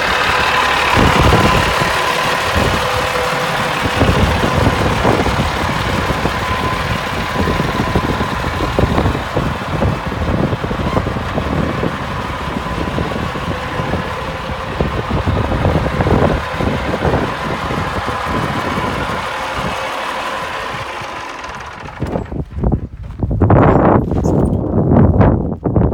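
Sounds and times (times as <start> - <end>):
diesel truck engine running: 0.0 - 25.2.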